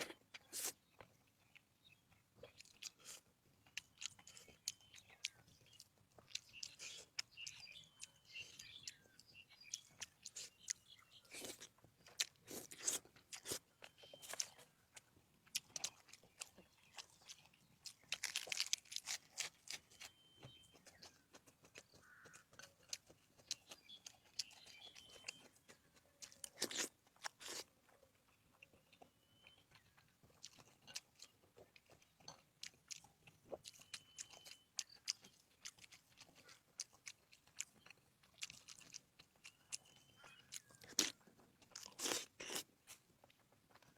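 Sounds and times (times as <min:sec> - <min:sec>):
crunchy chewing of food: 0:00.0 - 0:43.9.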